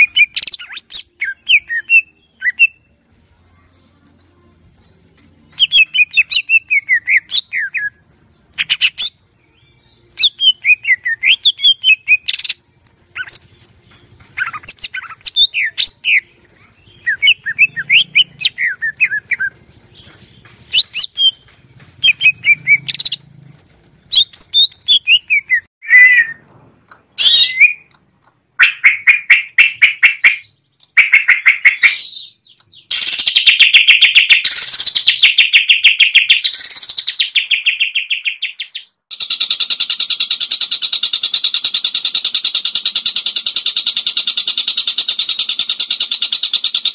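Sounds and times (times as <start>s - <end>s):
bird singing rapid chirps and trills: 0.0s - 4.4s, 5.4s - 23.3s, 24.0s - 26.4s, 27.2s - 46.9s.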